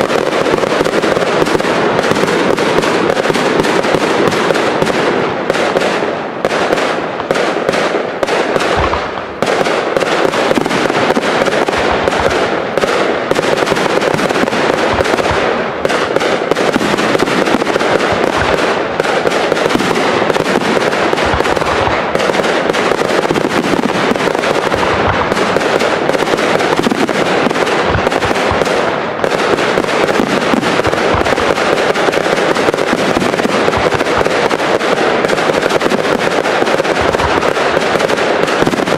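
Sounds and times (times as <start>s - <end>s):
fireworks bursting: 0.0s - 38.9s
fireworks crackling: 0.0s - 38.9s.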